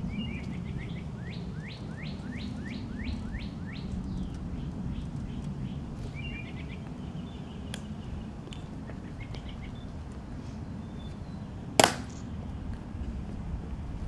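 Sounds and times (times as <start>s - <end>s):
small birds chirping: 0.0s - 12.8s
low background noise: 0.0s - 14.0s.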